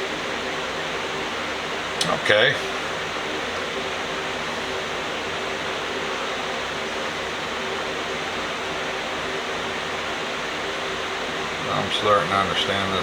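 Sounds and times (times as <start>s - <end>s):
faint even hum: 0.0s - 13.0s
steady background hiss: 0.0s - 13.0s.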